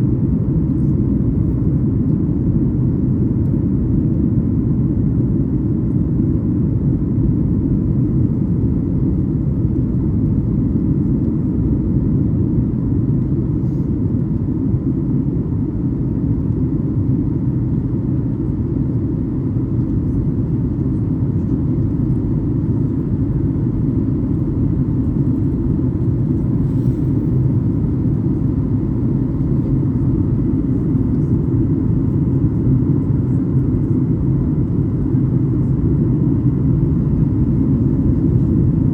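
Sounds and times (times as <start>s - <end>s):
jet engines rumbling in cabin: 0.0s - 38.9s
faint steady whine: 5.8s - 38.9s.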